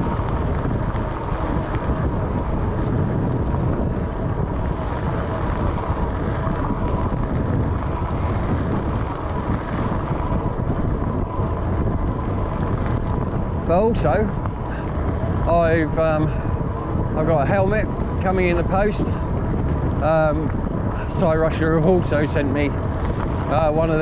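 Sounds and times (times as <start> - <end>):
bike tyres rolling: 0.0 - 24.0
wind buffeting microphone: 0.0 - 24.0.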